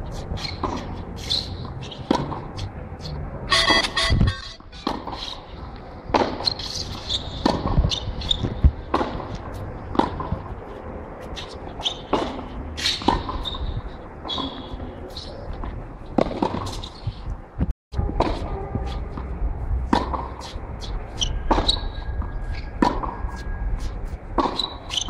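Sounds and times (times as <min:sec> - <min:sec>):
tennis balls bouncing on hard court: 0:00.2 - 0:02.6, 0:04.7 - 0:10.6, 0:11.4 - 0:15.0, 0:15.6 - 0:23.4, 0:24.3 - 0:25.0
tennis balls struck by racquets: 0:00.2 - 0:02.7, 0:03.6 - 0:10.6, 0:11.4 - 0:23.4, 0:24.1 - 0:25.0.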